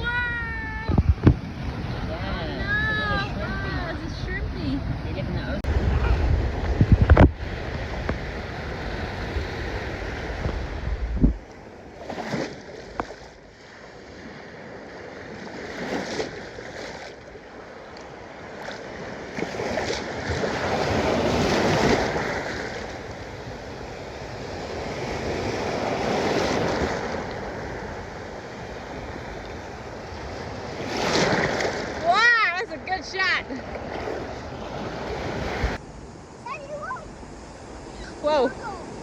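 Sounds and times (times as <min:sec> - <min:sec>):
surf washing onto beach: 0:00.0 - 0:39.0.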